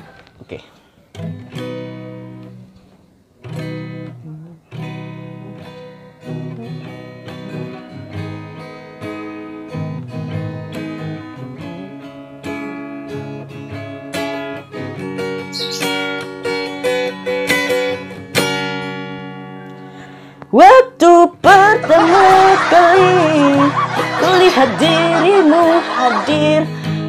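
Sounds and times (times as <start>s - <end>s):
acoustic guitar picking: 0.0s - 27.0s.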